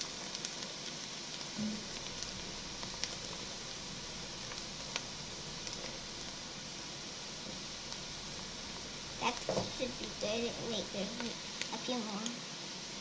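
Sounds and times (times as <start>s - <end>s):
vegetables sizzling in butter: 0.0s - 13.0s.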